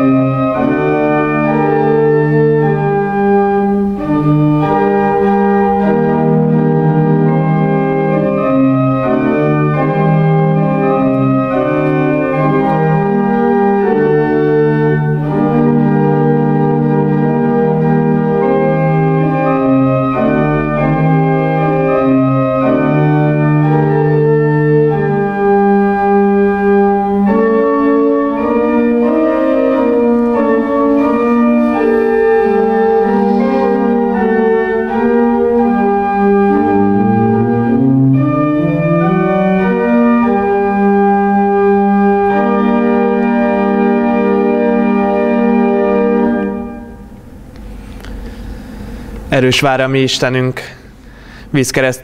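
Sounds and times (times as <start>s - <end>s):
church organ playing chords: 0.0s - 51.5s.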